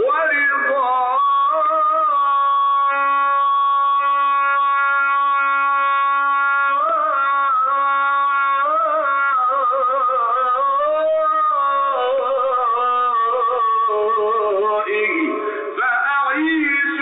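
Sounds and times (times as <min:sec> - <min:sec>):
ornamented melody line: 0:00.0 - 0:17.0.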